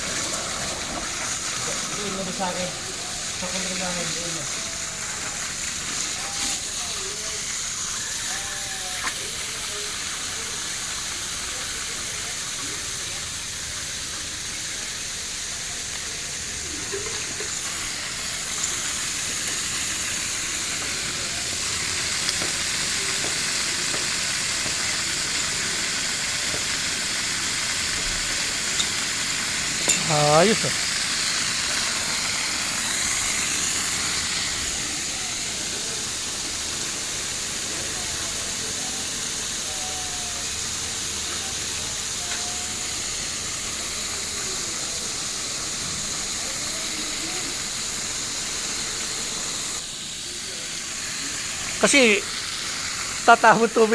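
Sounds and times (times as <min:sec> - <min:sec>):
water spraying from leaking pipe: 0:00.0 - 0:53.9.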